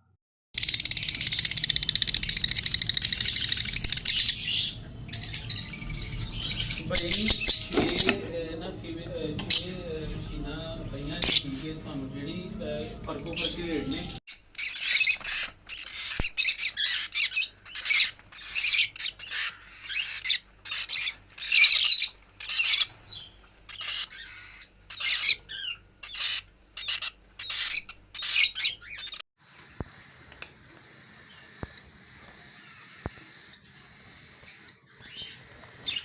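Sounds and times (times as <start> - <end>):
birds chirping: 0.0 - 36.0
birds squawking: 0.6 - 36.0.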